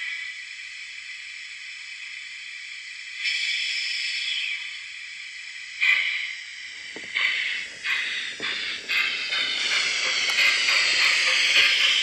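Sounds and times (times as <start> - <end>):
model locomotive hiss from speaker: 0.0 - 12.0
sharp loud hiss: 0.0 - 12.0.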